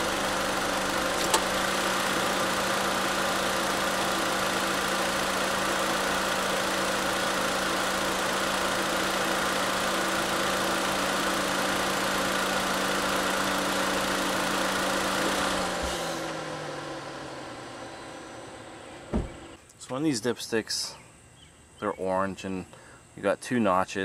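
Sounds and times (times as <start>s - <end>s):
car engine idling: 0.0s - 19.6s.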